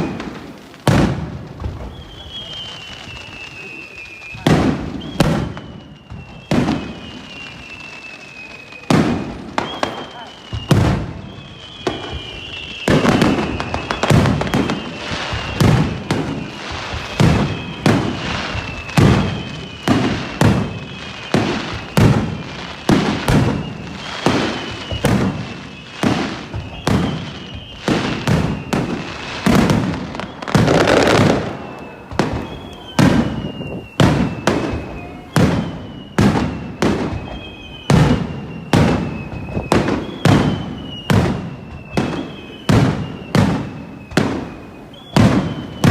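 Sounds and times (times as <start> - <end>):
firework whistle: 0.0 - 45.9.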